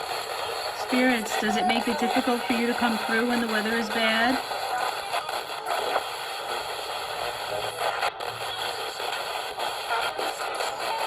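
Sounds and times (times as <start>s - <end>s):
choppy radio station fragments: 0.0s - 11.0s
radio static hiss: 0.0s - 11.0s.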